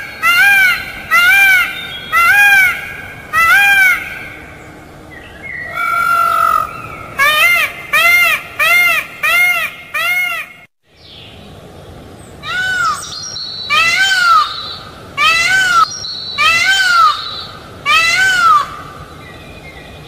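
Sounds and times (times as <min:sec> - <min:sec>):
peacock calling: 0:00.0 - 0:10.7, 0:12.4 - 0:19.6.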